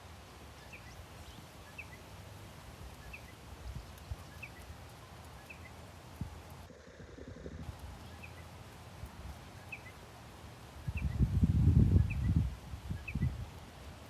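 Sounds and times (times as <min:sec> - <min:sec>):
small bird chirping: 0:00.5 - 0:02.1, 0:02.8 - 0:10.2, 0:10.8 - 0:13.8
wind buffeting microphone: 0:02.6 - 0:14.0.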